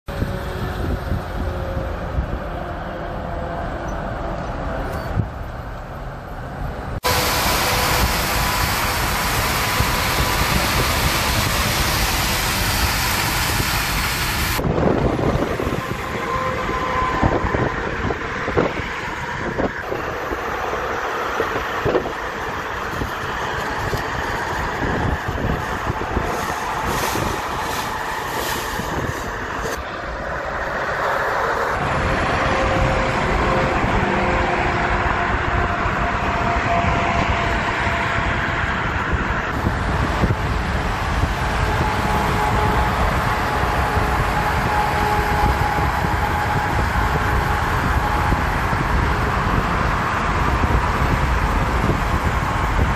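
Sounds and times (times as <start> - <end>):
highway traffic rush: 0.0 - 52.9.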